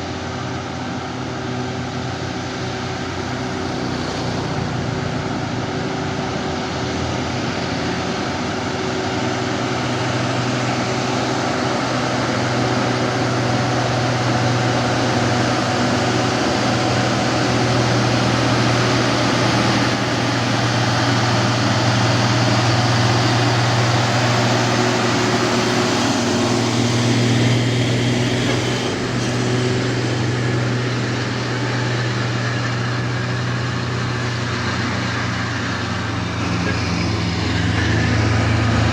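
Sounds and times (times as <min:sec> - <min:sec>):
diesel truck engine humming: 0:00.0 - 0:38.9.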